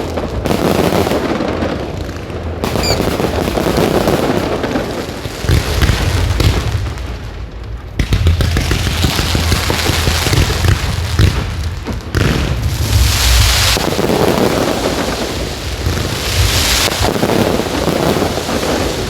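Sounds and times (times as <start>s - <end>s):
fireworks booming: 0.0s - 19.0s
fireworks crackling: 0.0s - 19.0s.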